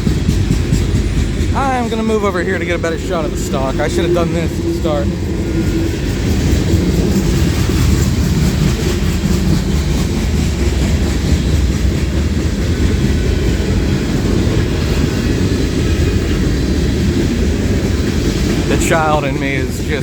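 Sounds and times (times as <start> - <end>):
steel wheels rumbling on rail: 0.0 - 20.0.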